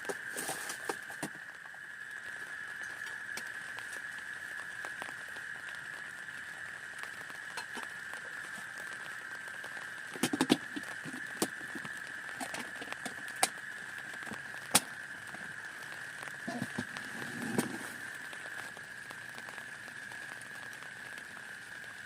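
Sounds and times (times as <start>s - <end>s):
rain hissing: 0.0s - 22.0s
sharp rain taps: 0.0s - 22.0s.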